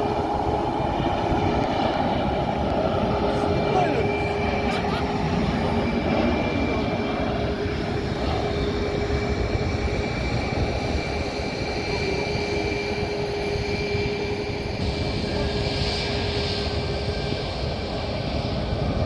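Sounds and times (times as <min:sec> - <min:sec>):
jet engines rumbling and whining: 0:00.0 - 0:19.0.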